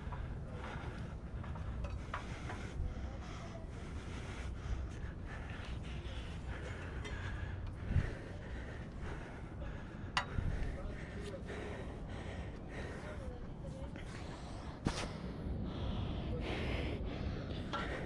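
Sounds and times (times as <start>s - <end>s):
person breathing: 0.0s - 18.0s
wind buffeting microphone: 0.0s - 18.0s.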